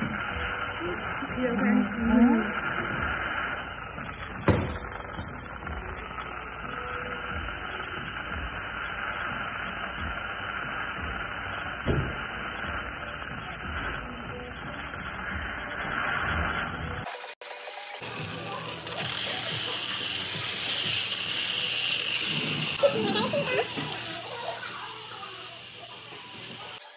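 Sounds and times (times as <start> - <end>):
air-water syringe hissing: 0.0 - 17.1, 18.7 - 26.8.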